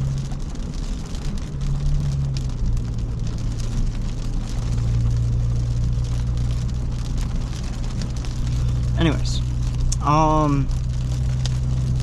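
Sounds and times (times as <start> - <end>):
car exhaust droning: 0.0 - 12.0
tyres hissing on wet road: 0.0 - 12.0.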